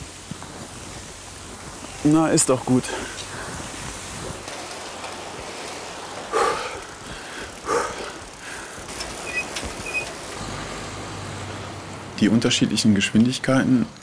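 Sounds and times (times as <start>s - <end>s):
handbike rolling on paved road: 0.0s - 14.0s.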